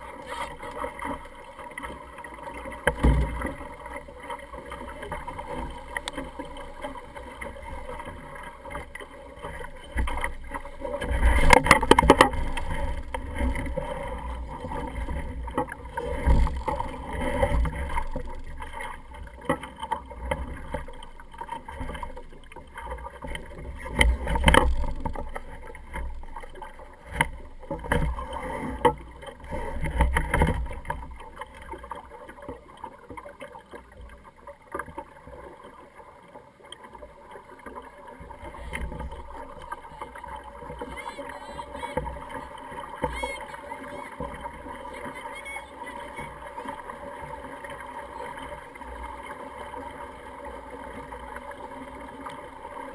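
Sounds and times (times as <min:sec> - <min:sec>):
water sloshing against hull: 0:00.0 - 0:52.9.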